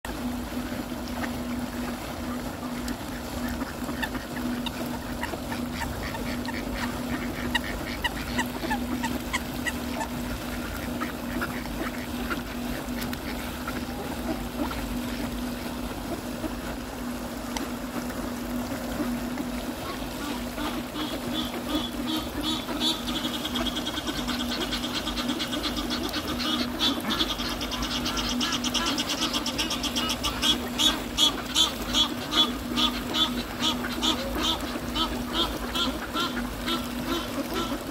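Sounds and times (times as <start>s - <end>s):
steady low hum: 0.1s - 37.9s
ducks quacking: 0.2s - 37.9s
goose honking: 1.1s - 15.4s, 19.8s - 37.9s.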